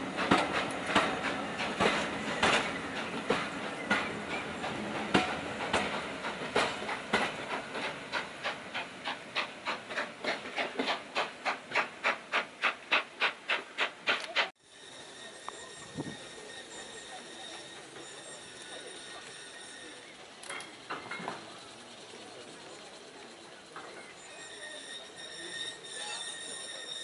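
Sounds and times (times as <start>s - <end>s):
train coaches clattering: 0.0s - 27.0s.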